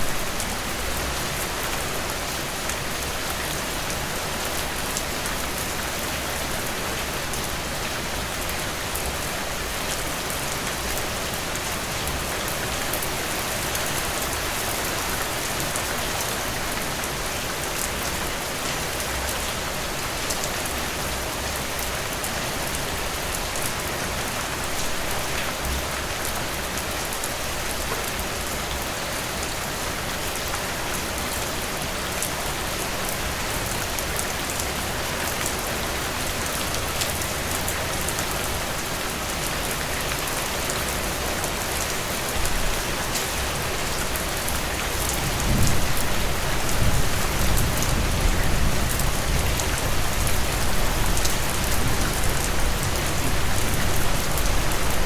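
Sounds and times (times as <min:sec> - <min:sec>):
heavy rain: 0:00.0 - 0:55.0
raindrops pattering on a surface: 0:00.1 - 0:55.0.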